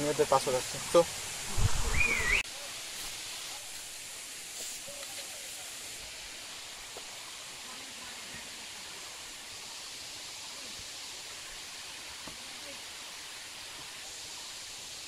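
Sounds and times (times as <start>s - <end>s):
waterfall hissing: 0.0s - 15.0s.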